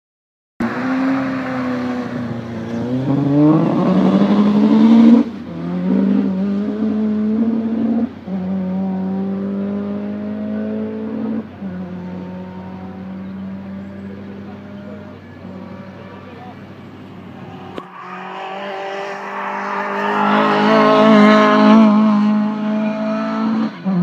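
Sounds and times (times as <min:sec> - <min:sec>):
car accelerating through gears: 0:00.6 - 0:16.0, 0:16.8 - 0:24.0.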